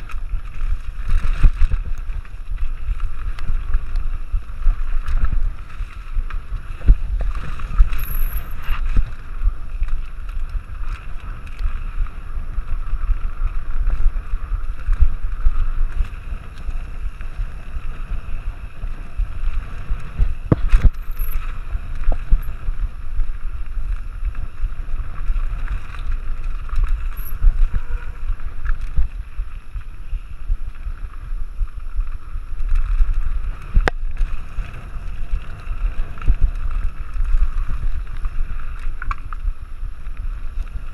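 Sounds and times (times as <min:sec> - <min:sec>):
bike rattling over bumps: 0:00.0 - 0:40.9
tyre rumble: 0:00.0 - 0:40.9
wind rush over microphone: 0:00.0 - 0:40.9.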